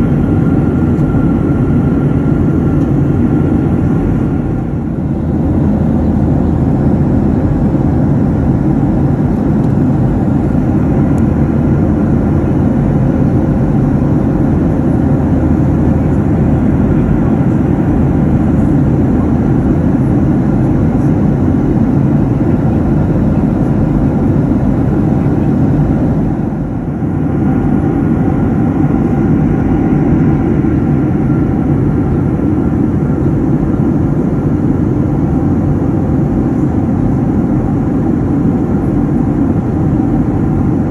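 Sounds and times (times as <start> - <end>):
jet airliner cabin roar: 0.0 - 40.9.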